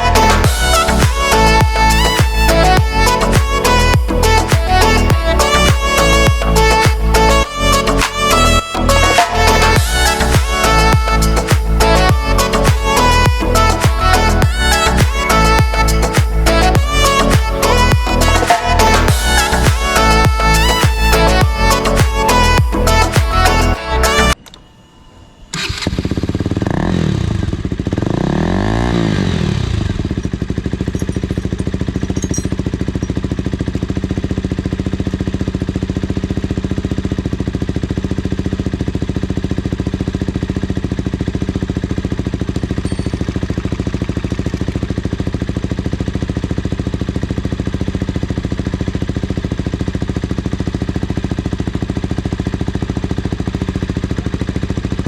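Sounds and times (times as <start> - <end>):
motorcycle engine revving and idling: 0.0 - 24.4, 25.6 - 55.0.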